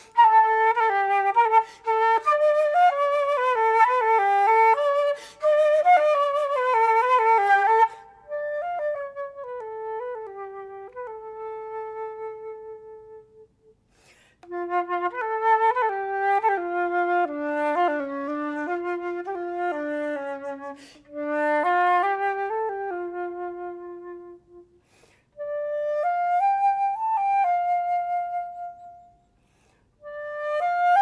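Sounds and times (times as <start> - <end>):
flute melody: 0.0 - 13.6, 14.4 - 24.8, 25.4 - 29.4, 30.0 - 31.0.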